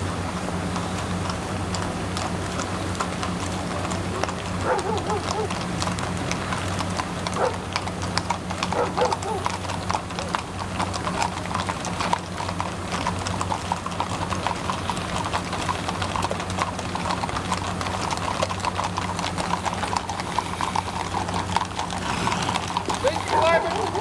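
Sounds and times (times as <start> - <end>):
horse hooves on asphalt: 0.0 - 24.0.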